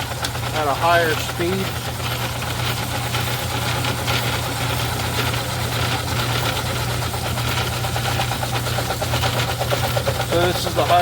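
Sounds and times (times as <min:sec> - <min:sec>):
metal lathe humming and whirring: 0:00.0 - 0:11.0.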